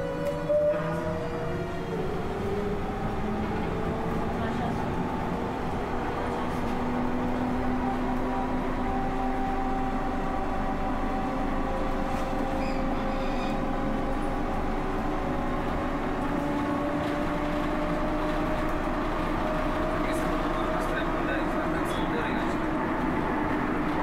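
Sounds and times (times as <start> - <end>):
vehicle ride noise: 0.1 - 24.0.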